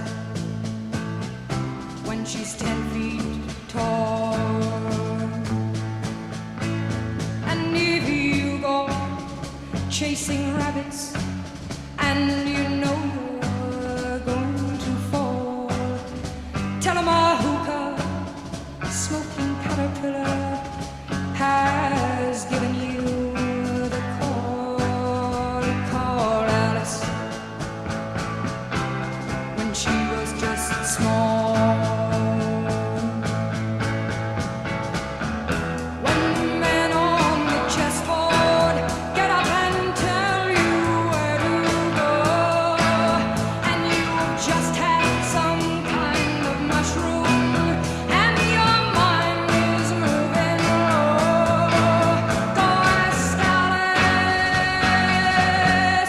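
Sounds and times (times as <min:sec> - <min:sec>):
rock band playing: 0:00.0 - 0:56.0
person singing: 0:01.9 - 0:05.9, 0:07.4 - 0:27.7, 0:28.8 - 0:34.0, 0:35.8 - 0:56.0.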